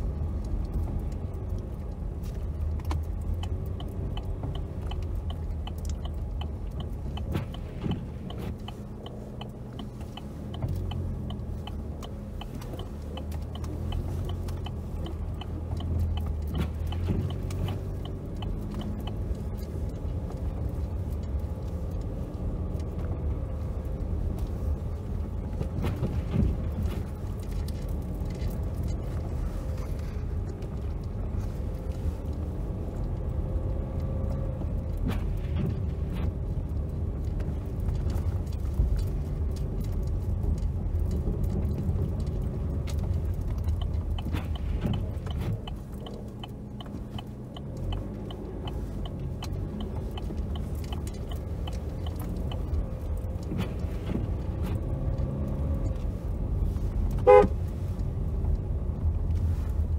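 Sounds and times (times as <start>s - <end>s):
car engine and tyre rumble: 0.0s - 59.9s
turn signal ticking: 0.0s - 59.9s.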